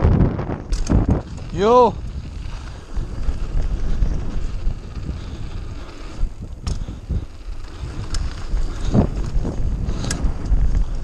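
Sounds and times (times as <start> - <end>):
bike knocking and rattling: 0.0 - 11.0
bike tyres rolling on gravel: 0.0 - 11.0
wind buffeting microphone: 0.0 - 11.0.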